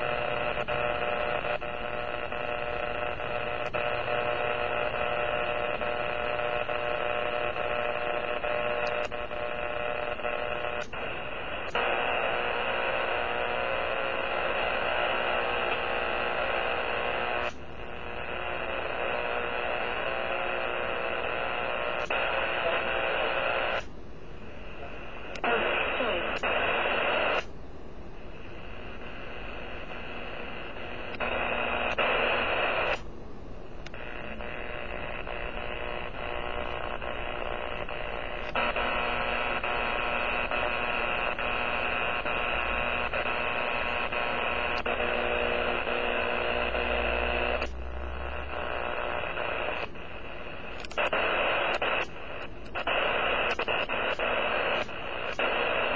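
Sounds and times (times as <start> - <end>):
buzzy radio static: 0.0 - 27.5, 28.2 - 55.9
steady hum: 0.0 - 55.9.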